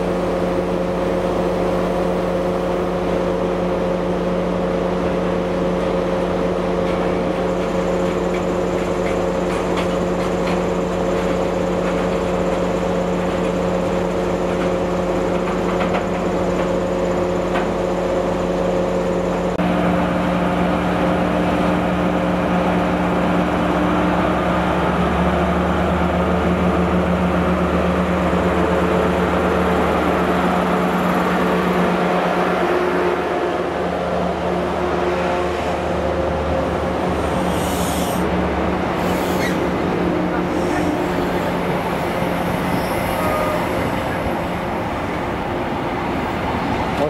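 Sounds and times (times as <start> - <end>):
diesel engine running: 0.0 - 47.0
rail rumble: 0.0 - 47.0.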